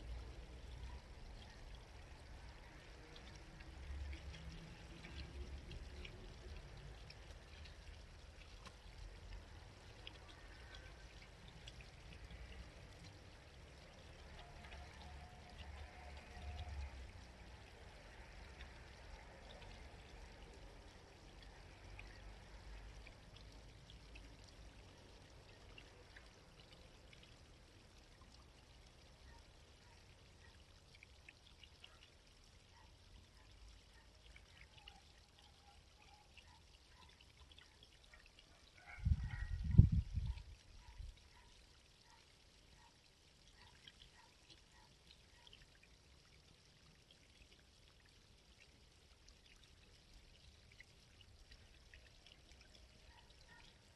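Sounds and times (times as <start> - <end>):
stream babbling over stones: 0.0 - 53.9.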